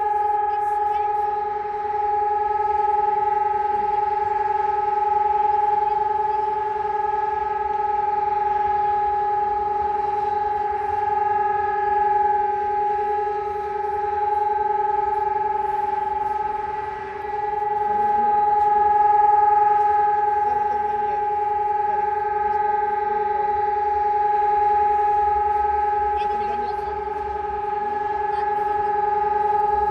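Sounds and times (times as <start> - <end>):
steady siren tone: 0.0 - 29.9.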